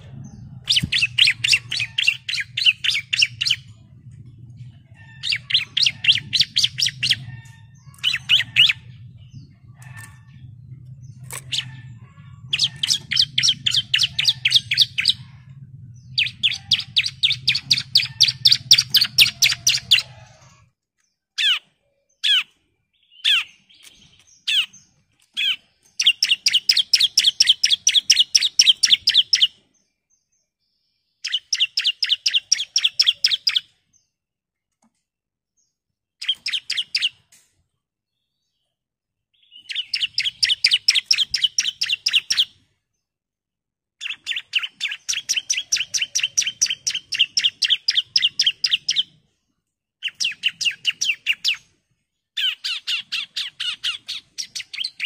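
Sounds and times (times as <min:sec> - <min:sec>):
bird chirping song: 0:00.0 - 0:43.4, 0:44.0 - 0:55.0.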